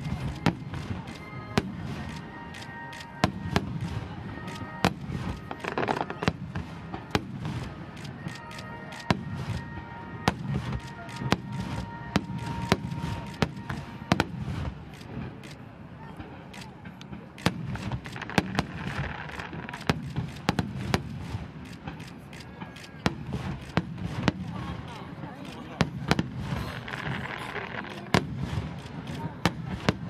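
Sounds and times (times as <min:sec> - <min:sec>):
continuous firework rumble: 0:00.0 - 0:30.0.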